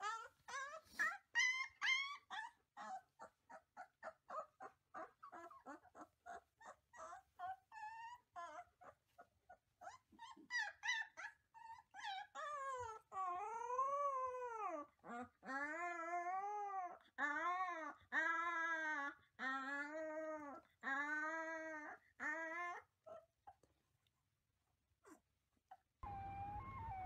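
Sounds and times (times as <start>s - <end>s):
pup yipping and howling: 0.0s - 23.6s, 26.0s - 27.0s.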